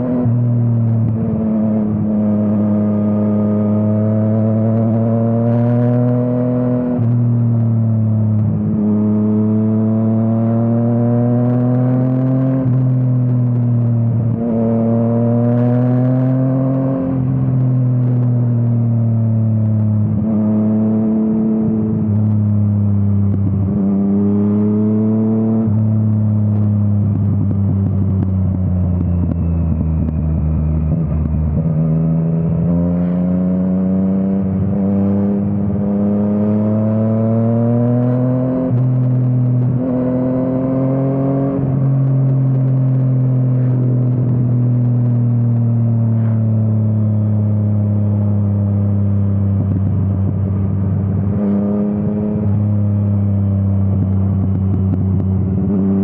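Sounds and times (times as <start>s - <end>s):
motorcycle engine accelerating through gears: 0.0s - 56.0s.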